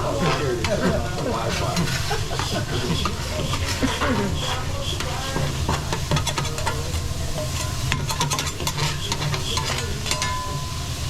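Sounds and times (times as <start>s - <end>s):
metal spatulas scraping steel: 0.0s - 10.8s
food sizzling on a griddle: 0.0s - 11.0s.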